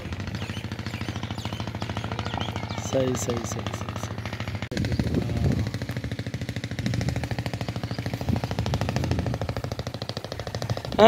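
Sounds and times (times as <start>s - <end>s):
engine exhaust putter: 0.0s - 11.0s
low hum: 0.0s - 11.0s.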